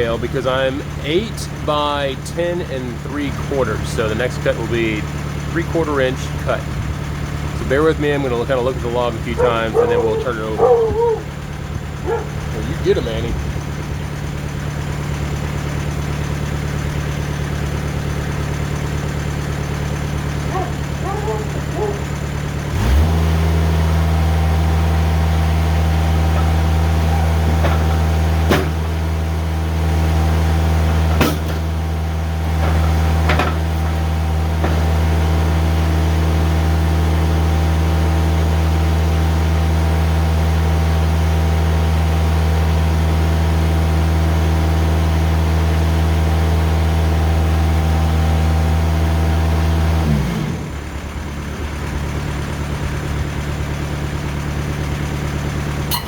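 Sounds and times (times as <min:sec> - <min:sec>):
diesel engine revving and idling: 0:00.0 - 0:56.0.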